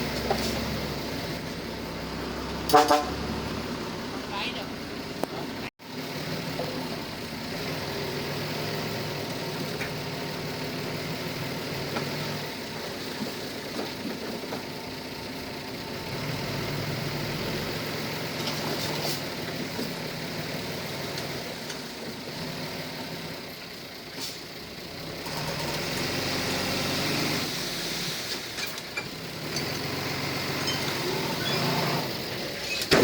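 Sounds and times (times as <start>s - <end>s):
earthmoving machine diesel engine: 0.0s - 33.0s.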